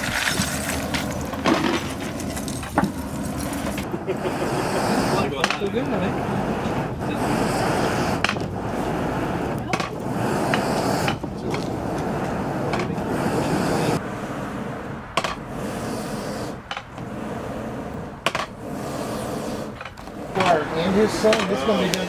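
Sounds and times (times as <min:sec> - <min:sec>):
bellows blowing air: 0:00.0 - 0:22.0
fire roaring: 0:00.0 - 0:22.0.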